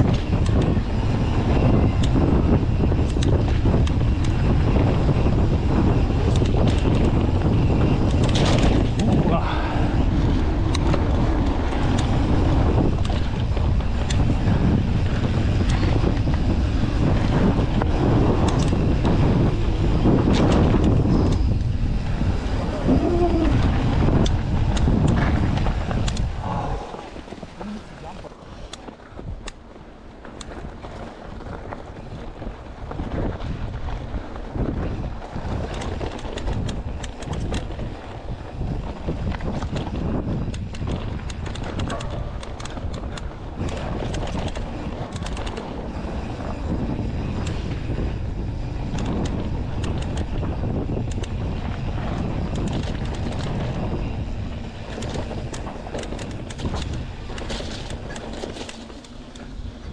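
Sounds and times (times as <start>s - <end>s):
bike clicks and rattles: 0.0s - 59.9s
tyres rumbling on dirt: 0.0s - 59.9s
wind buffeting microphone: 0.0s - 59.9s.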